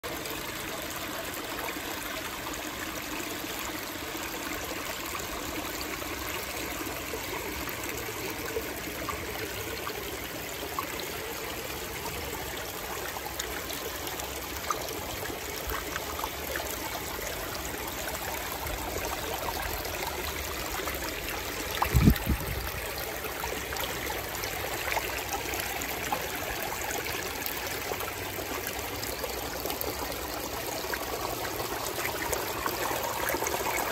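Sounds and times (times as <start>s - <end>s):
water trickling and splashing: 0.0s - 33.9s.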